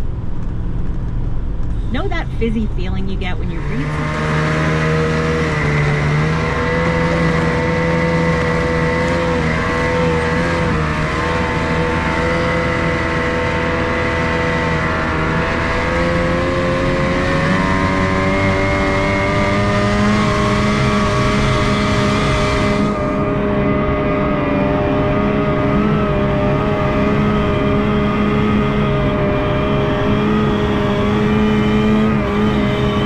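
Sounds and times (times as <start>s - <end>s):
snowmobile engine running: 1.8s - 33.0s.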